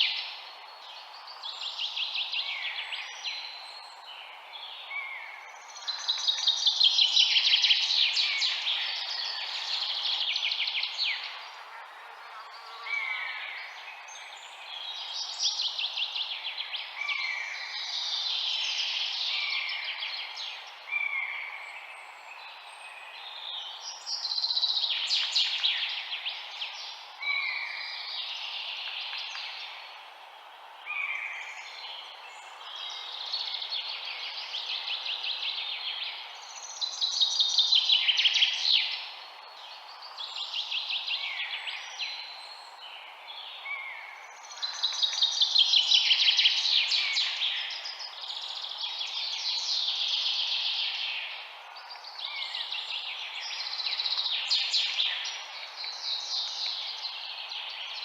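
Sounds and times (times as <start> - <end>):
songbirds singing: 0.0 - 58.0
steady background hiss: 0.0 - 58.0.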